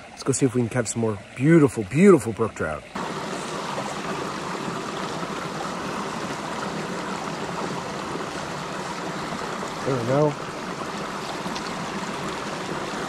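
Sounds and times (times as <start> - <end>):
brook running over rocks: 0.0 - 13.0
water cascading into pool: 0.0 - 13.0.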